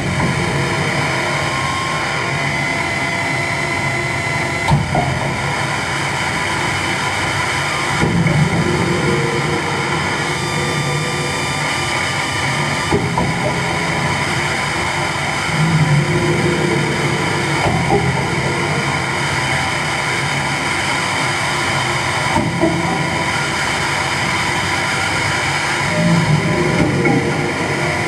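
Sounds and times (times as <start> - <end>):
droning tones: 0.0 - 28.0
electronic noise hiss and rumble: 0.0 - 28.0.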